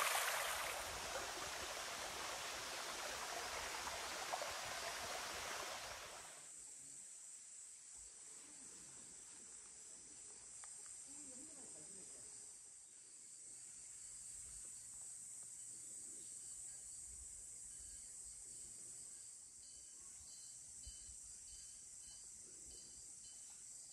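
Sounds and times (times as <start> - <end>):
crickets chirring: 0.0 - 23.9.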